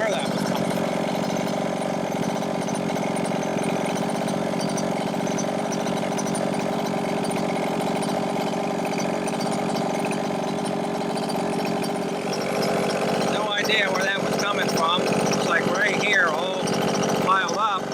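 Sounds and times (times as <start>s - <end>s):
two-stroke engine idling: 0.0s - 17.9s.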